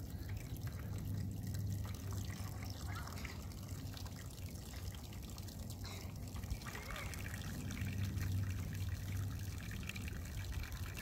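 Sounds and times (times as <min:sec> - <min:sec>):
liquid trickling into plastic box: 0:00.0 - 0:11.0
low steady hum: 0:00.0 - 0:11.0.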